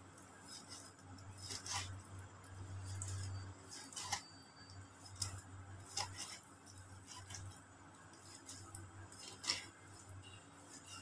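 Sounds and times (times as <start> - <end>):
knife slicing raw fish: 0.2 - 11.0.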